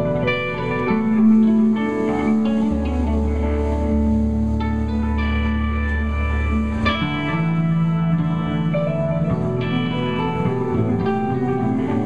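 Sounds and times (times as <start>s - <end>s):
electric guitars ringing: 0.0s - 12.0s
live rock band playing: 0.0s - 12.0s.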